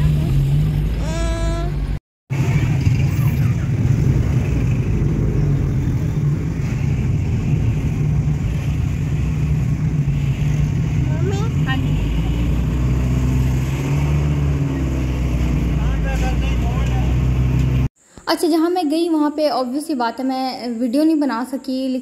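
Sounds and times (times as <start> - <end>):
car engine and road noise: 0.0 - 17.9.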